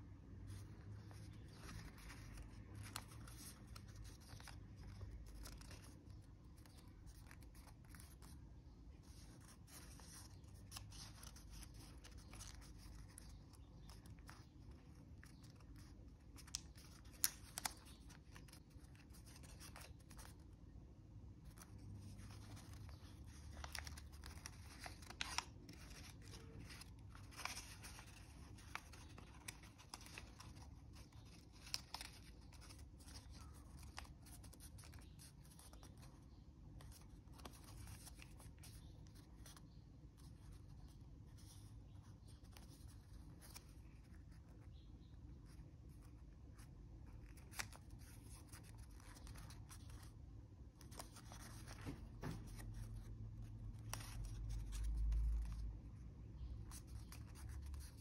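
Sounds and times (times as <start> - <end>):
paper rustling: 0.5 - 20.6, 21.4 - 44.8, 45.4 - 56.0, 56.6 - 58.0
paper crackling as folded: 0.5 - 20.7, 21.3 - 56.0, 56.6 - 58.0.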